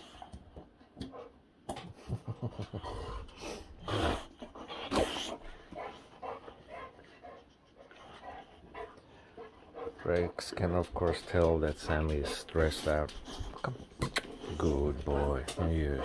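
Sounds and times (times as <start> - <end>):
dogs panting and snuffling: 0.0 - 16.0.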